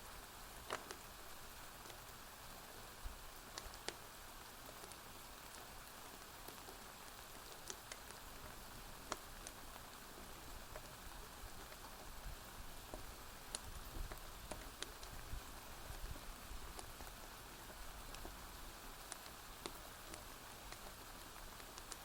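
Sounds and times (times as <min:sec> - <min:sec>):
rain on a porch roof: 0:00.0 - 0:22.0
wood fire popping and crackling: 0:00.5 - 0:02.3, 0:03.0 - 0:22.0.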